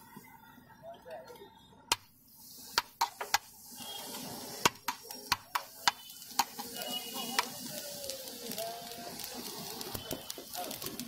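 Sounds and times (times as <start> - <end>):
food sizzling on metal griddle: 1.9 - 11.0.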